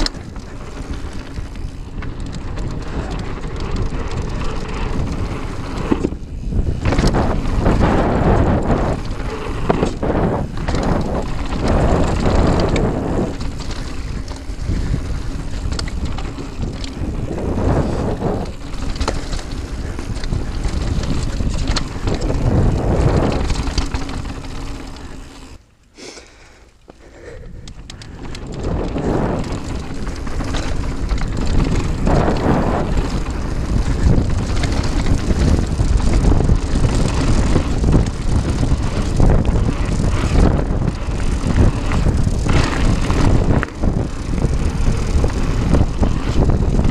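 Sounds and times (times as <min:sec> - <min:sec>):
wind buffeting microphone: 0:00.0 - 0:24.8, 0:27.2 - 0:46.9
bike knocks and rattles: 0:00.0 - 0:25.6, 0:27.6 - 0:46.9
tyres rumbling on gravel: 0:00.0 - 0:25.6, 0:26.8 - 0:46.9.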